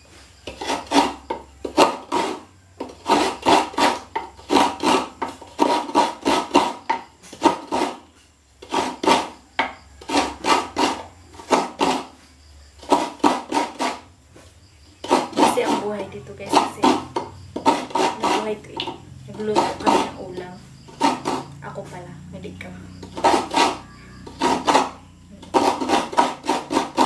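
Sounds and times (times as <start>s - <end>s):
coconut grating rasps: 0.4s - 22.2s, 22.9s - 27.0s.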